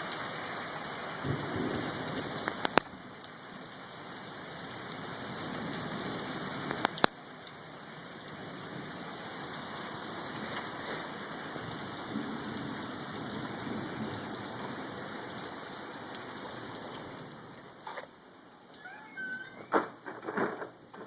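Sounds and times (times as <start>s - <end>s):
heavy rain hissing: 0.0s - 20.4s.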